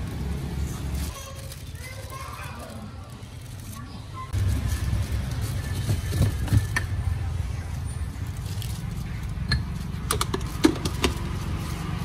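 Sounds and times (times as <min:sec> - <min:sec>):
low rumble of background noise: 0:00.0 - 0:12.0.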